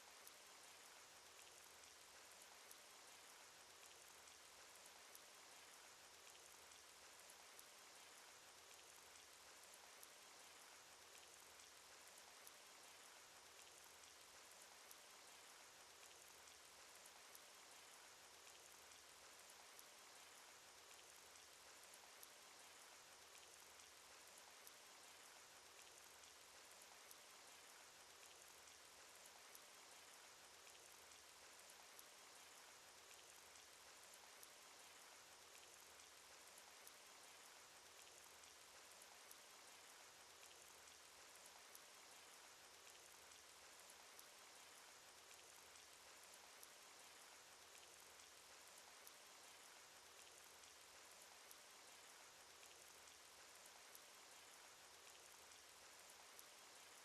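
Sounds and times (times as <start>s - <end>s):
faint rain hiss: 0.0s - 57.0s
raindrop ticks: 0.1s - 57.0s.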